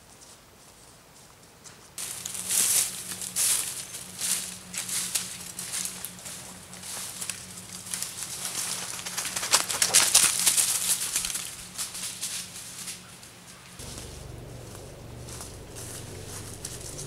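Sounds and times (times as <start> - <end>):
footsteps crunching dry leaves: 2.0 - 17.0.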